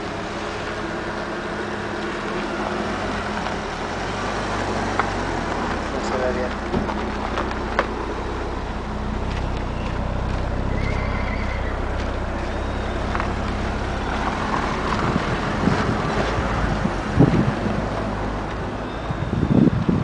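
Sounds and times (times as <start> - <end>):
vehicle engine idling: 0.0 - 20.0
low rumbling gusts: 3.9 - 20.0.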